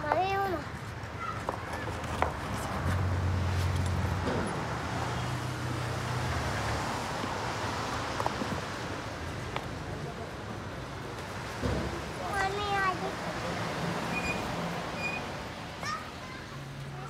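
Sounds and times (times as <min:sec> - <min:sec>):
passing vehicles roar: 0:00.7 - 0:17.0.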